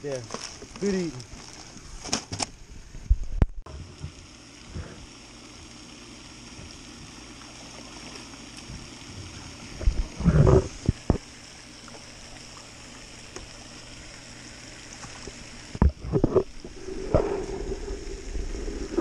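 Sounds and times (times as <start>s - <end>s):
fountain spray splashing: 0.0s - 1.4s, 3.7s - 19.0s.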